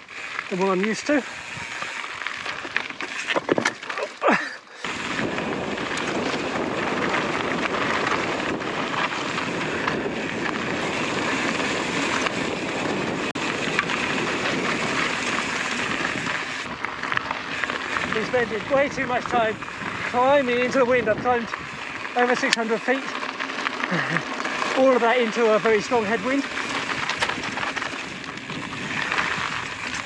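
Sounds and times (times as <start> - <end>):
wind buffeting microphone: 1.0 - 2.7, 4.8 - 30.0.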